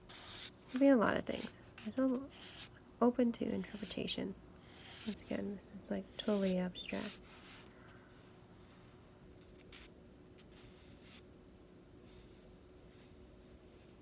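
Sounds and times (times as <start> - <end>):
drawing tool scratching paper: 0.0 - 2.7, 3.4 - 4.0, 4.6 - 11.2, 12.1 - 14.0
faint steady hum: 0.0 - 14.0.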